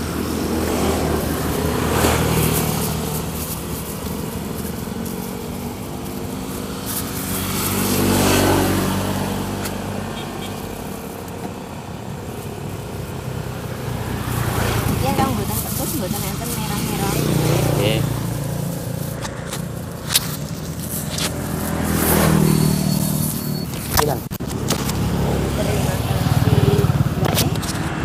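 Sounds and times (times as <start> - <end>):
vehicles passing: 0.0 - 28.0.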